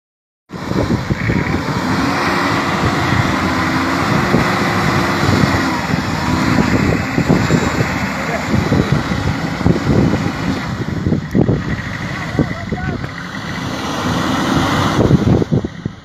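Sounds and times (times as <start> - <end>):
pickup truck engine revving: 0.5 - 16.0.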